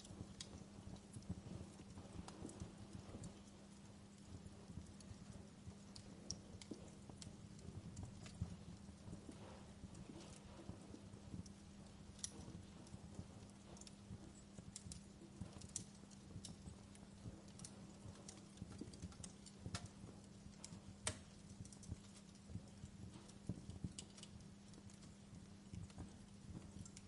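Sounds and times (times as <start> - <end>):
faint steady hum: 0.0 - 27.0
wood fire crackling: 0.0 - 27.0.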